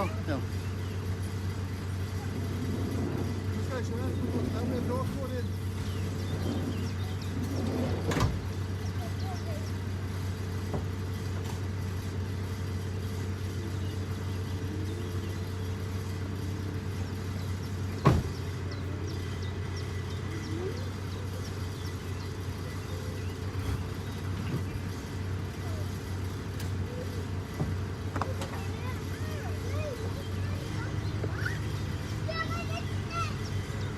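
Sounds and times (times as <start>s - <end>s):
heavy diesel engine running: 0.0s - 33.9s.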